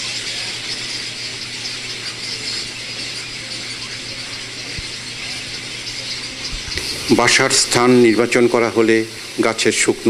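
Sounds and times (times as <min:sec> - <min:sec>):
colony of birds calling: 0:00.0 - 0:10.0.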